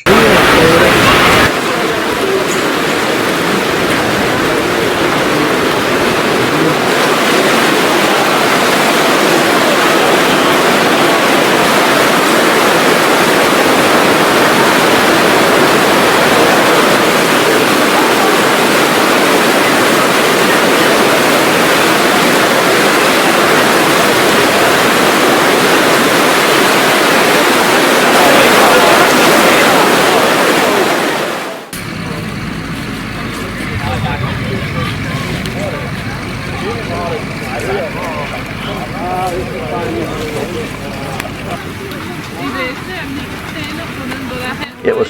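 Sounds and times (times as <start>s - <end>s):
heavy rain downpour: 0.0s - 45.0s.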